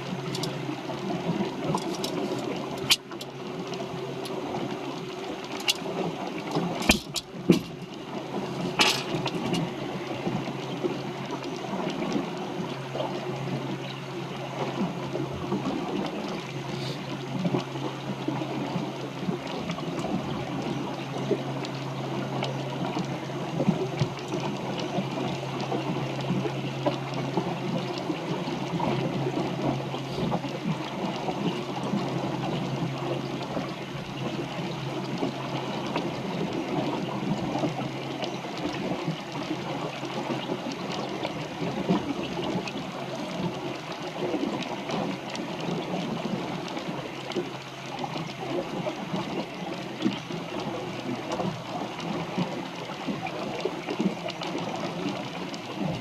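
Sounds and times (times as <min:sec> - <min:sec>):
water rushing and splashing: 0:00.0 - 0:56.0.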